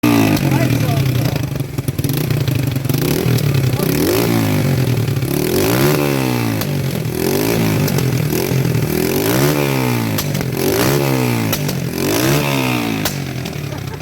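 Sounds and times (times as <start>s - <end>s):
motorcycle engine revving: 0.0s - 14.0s
sharp exhaust crackles: 0.0s - 14.0s.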